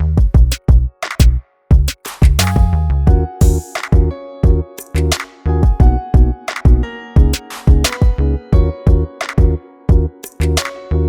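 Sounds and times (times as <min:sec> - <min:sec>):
electronic music with drum machine: 0:00.0 - 0:11.0.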